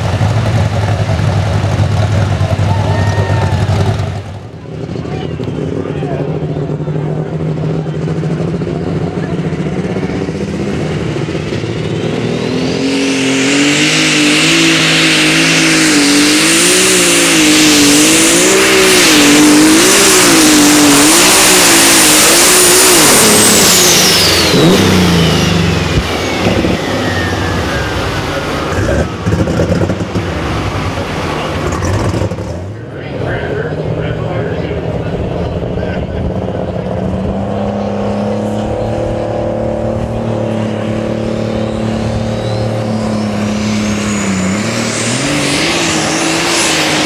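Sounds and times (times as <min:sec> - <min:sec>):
high turbo whine: 0:00.0 - 0:47.0
tractor engine under full power: 0:00.0 - 0:47.0.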